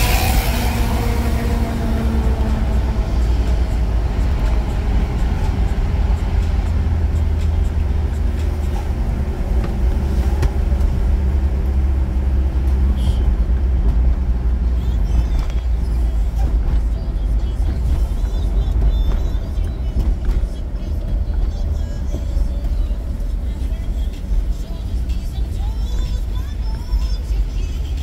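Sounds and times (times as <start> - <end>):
car driving at highway speed: 0.0 - 28.0.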